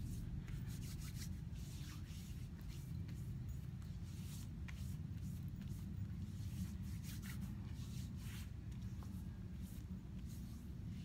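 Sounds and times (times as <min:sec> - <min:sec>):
hands rubbing skin: 0:00.0 - 0:11.0.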